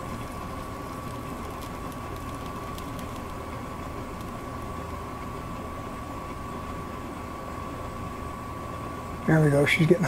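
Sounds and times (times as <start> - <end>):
soldering gun humming: 0.0 - 9.0.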